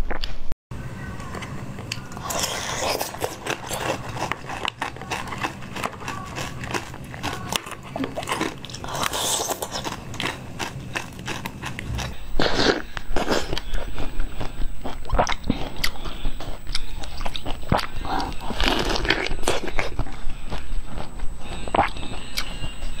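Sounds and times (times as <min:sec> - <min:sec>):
crunchy candy being chewed: 0:01.9 - 0:23.0.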